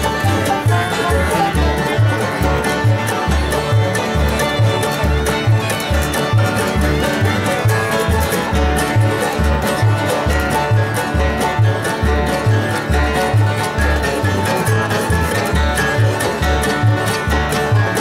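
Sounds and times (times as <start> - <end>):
bluegrass band playing: 0.0 - 18.0
upright bass low notes: 0.0 - 18.0.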